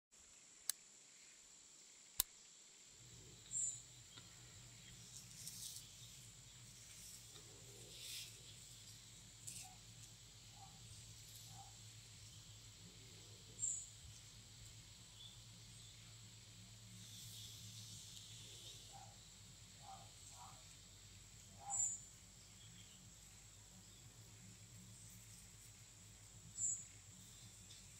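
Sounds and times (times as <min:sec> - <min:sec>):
high insect drone: 0:00.3 - 0:27.9.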